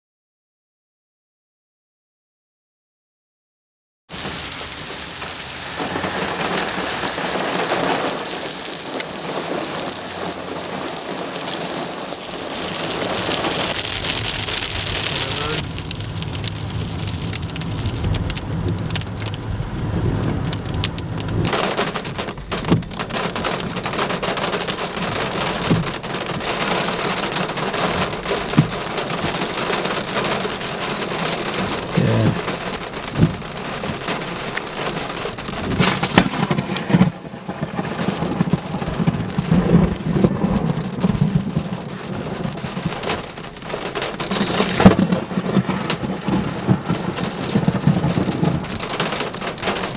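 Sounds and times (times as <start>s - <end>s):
hail and heavy rain: 4.1s - 49.9s
hailstones knocking: 4.1s - 49.9s
thunder rumbling: 4.1s - 49.9s.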